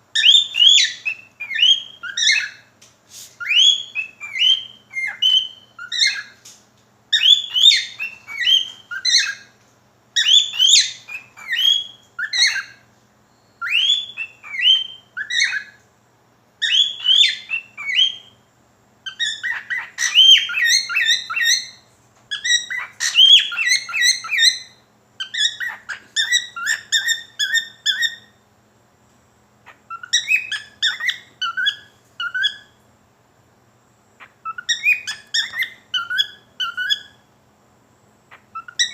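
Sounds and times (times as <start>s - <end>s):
cockatiel whistling and chirping: 0.2s - 2.7s, 3.4s - 6.4s, 7.1s - 9.5s, 10.2s - 15.8s, 16.6s - 18.4s, 19.0s - 28.4s, 29.6s - 32.8s, 34.2s - 37.2s, 38.3s - 38.9s.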